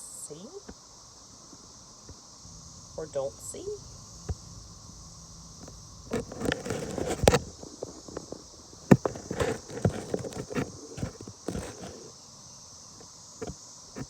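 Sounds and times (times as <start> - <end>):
steady high-pitched hiss: 0.0 - 14.0.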